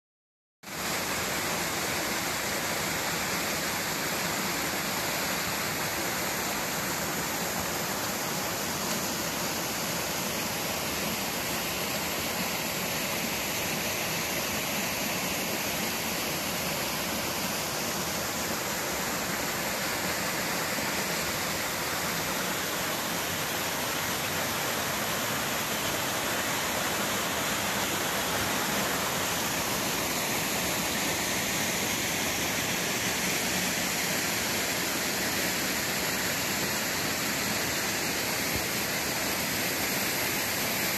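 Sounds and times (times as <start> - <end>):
stream flowing over rocks: 0.7 - 40.9.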